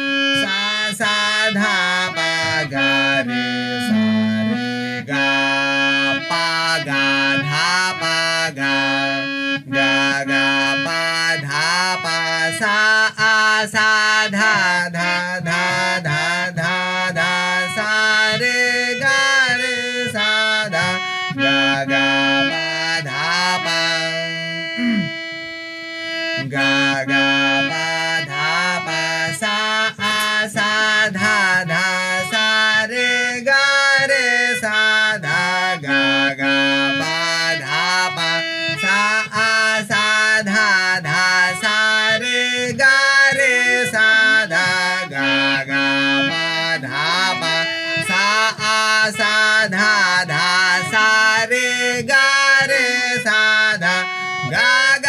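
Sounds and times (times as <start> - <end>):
harmonium drone: 0.0 - 55.0
harmonium melody: 0.0 - 55.0.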